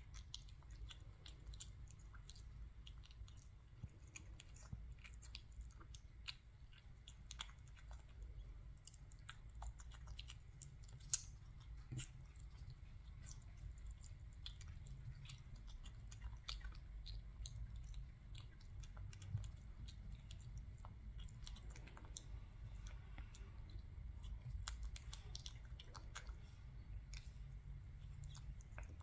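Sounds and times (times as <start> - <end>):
kitten chewing meat: 0.0 - 29.0.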